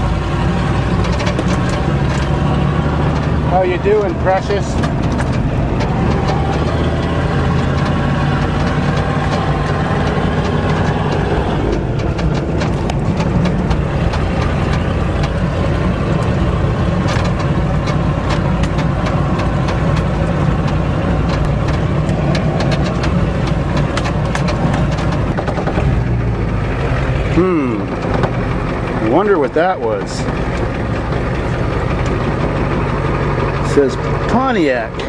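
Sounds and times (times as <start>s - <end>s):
clicks and rattles: 0.0s - 26.9s, 27.8s - 35.0s
diesel truck engine without muffler: 0.0s - 35.0s.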